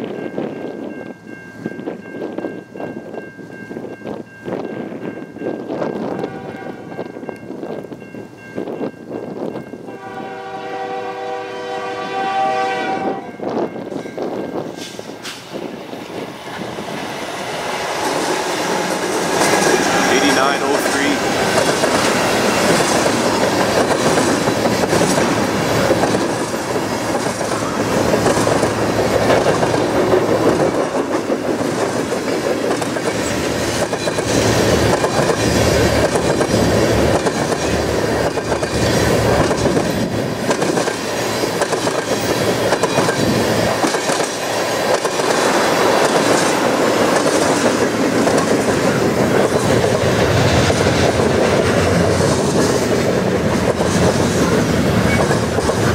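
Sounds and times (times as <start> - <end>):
train wheels on rail: 0.0 - 55.9.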